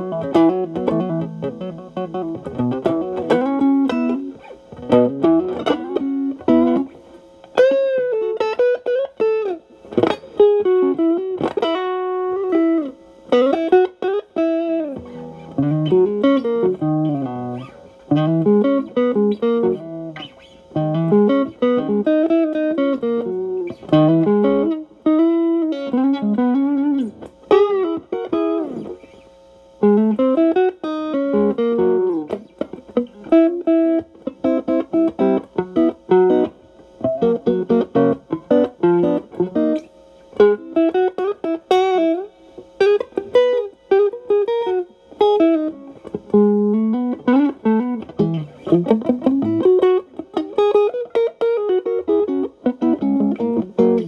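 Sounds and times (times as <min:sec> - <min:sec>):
overdriven electric guitar blues lead: 0:00.0 - 0:54.0.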